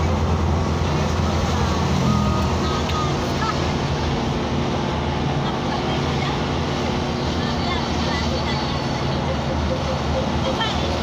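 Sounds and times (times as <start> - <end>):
diesel engine running: 0.0 - 11.0
road noise: 0.0 - 11.0.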